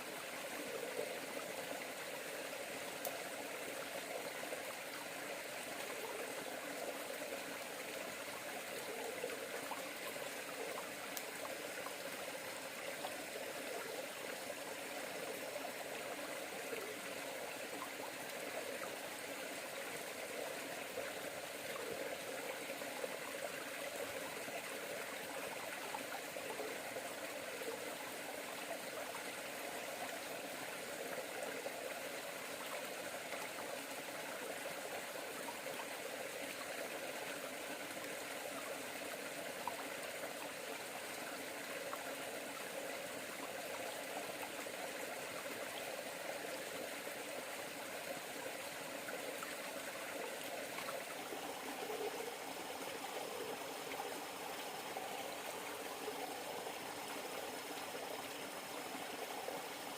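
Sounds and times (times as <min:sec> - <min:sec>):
faint water trickle: 0:00.0 - 0:59.9.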